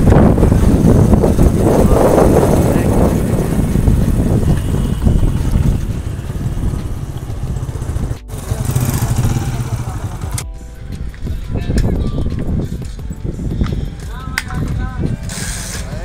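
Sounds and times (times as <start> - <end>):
motorcycle engine rumbling: 0.0 - 13.6.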